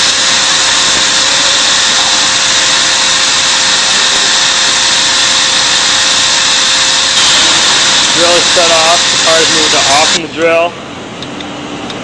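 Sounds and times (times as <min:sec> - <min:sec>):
drill whirring: 0:00.0 - 0:10.2.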